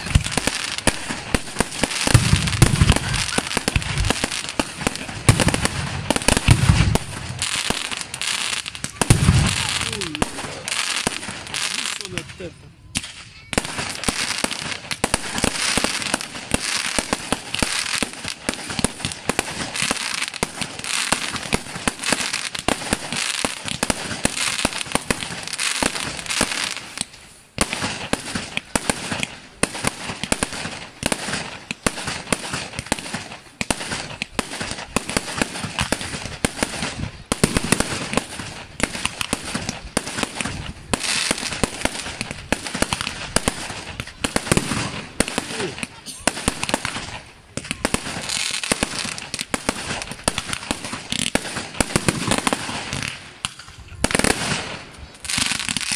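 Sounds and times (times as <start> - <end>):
fireworks bursting and crackling: 0.0 - 55.9.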